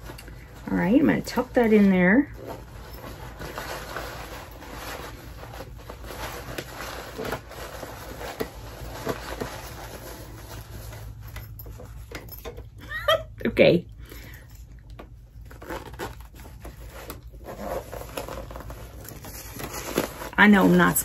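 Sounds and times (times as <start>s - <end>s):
fabric backpack rustling: 0.0s - 12.4s, 15.5s - 21.0s.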